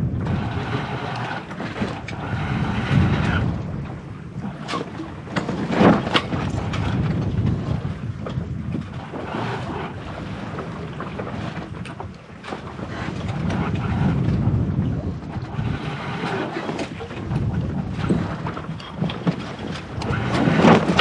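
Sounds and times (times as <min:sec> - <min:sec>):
sea water rushing along hull: 0:00.0 - 0:21.0
wind buffeting microphone: 0:00.0 - 0:21.0.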